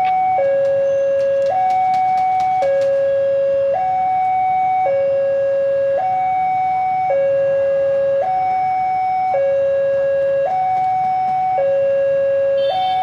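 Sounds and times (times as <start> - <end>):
two-tone level crossing alarm: 0.0 - 13.0.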